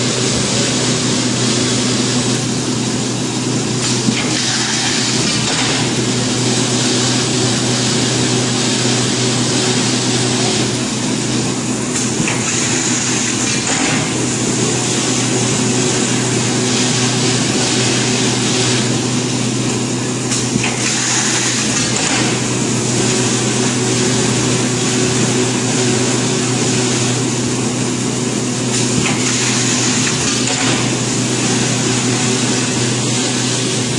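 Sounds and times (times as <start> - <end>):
machine hum with hiss: 0.0 - 33.9.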